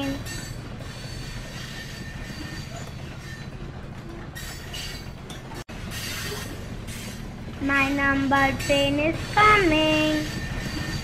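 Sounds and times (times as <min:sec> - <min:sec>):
rhythmic wheel clatter: 0:00.0 - 0:11.0
train rumbling on rails: 0:00.0 - 0:11.0.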